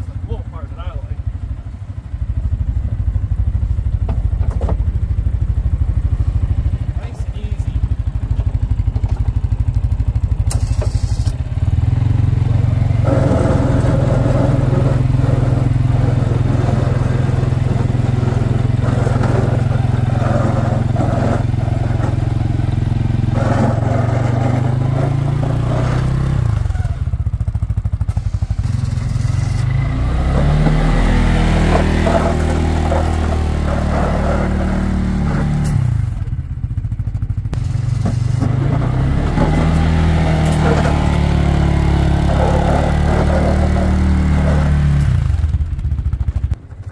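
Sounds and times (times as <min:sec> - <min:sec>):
atv engine running under load: 0:00.0 - 0:46.9.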